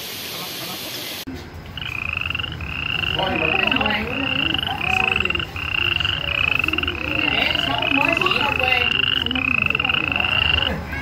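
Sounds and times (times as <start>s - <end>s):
high pulsed animal trill: 1.8s - 11.0s.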